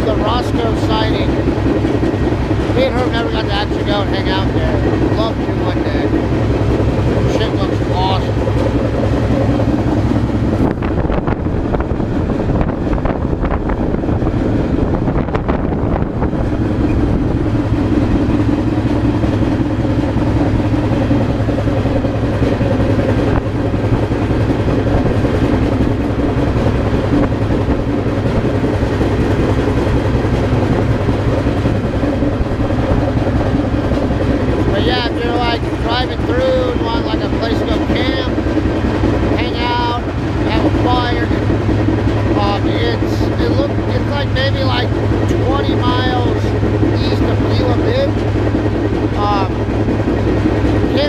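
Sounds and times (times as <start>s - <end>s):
freight train rumbling and rattling: 0.0s - 51.0s.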